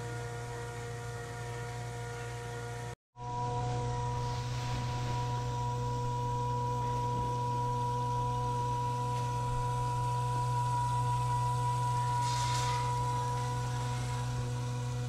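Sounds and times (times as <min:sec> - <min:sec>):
electrical hum: 0:00.0 - 0:15.0
high motor whine: 0:00.0 - 0:15.0.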